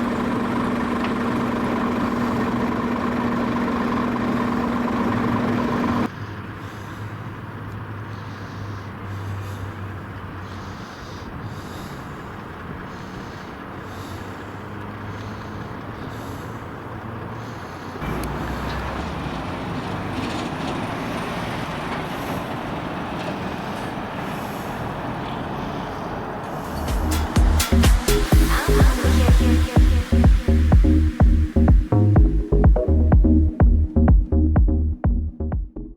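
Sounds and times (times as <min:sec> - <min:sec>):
road noise: 0:00.0 - 0:35.9
truck diesel engine hum: 0:00.0 - 0:35.9.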